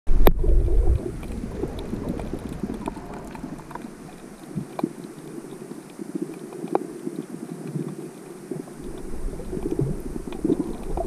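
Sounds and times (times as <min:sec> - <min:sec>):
faint clicks and crackles: 0:00.1 - 0:11.0
low rumble of water: 0:00.1 - 0:11.0
muffled underwater water wash: 0:00.1 - 0:11.0.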